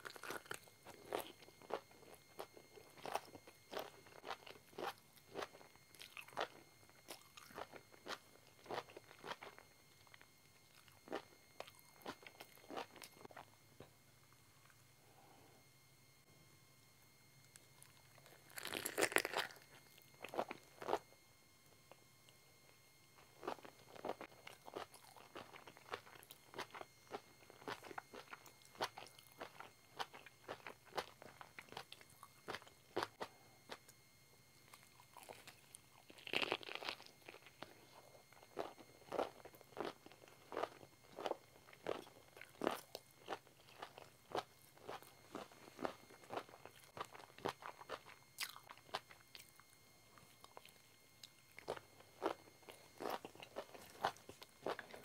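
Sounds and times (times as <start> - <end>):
crunchy chewing: 0.0 - 13.9, 17.5 - 21.0, 23.2 - 34.0, 34.6 - 55.0.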